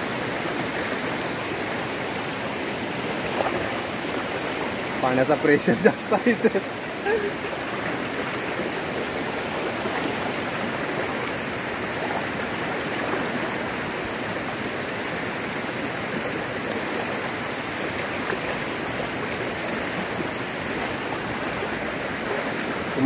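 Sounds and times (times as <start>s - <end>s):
river water rushing over rocks: 0.0s - 23.0s.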